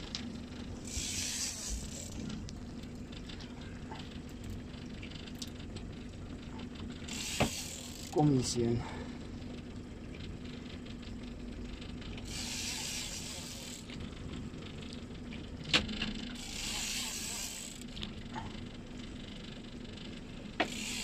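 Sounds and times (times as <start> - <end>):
boat motor humming: 0.0 - 21.0.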